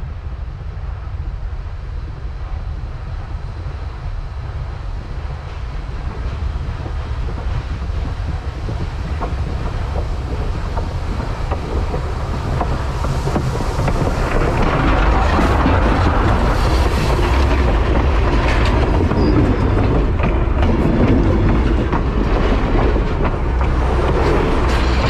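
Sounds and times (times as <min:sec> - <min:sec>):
steam locomotive rumble: 0:00.0 - 0:25.0
wind buffeting microphone: 0:00.0 - 0:25.0.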